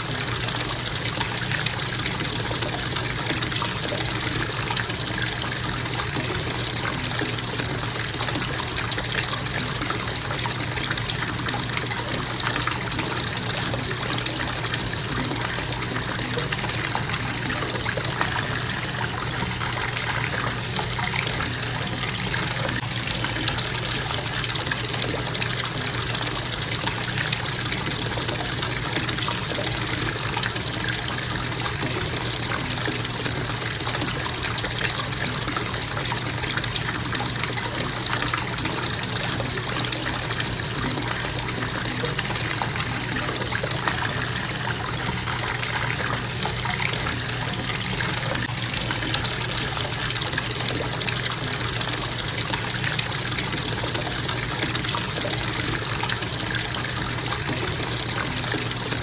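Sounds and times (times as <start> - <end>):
faucet water pouring into bathtub: 0.0 - 59.0.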